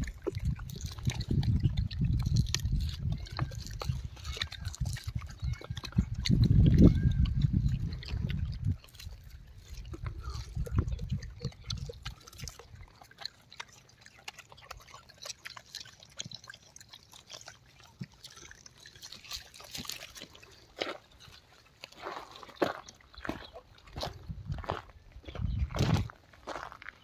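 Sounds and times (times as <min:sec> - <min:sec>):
monkeys chewing wet fruit: 0:00.0 - 0:27.0.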